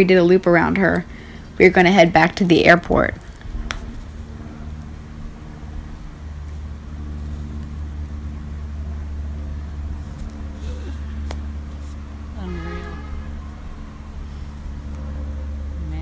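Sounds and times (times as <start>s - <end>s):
light plane engine drone overhead: 0.0s - 16.0s.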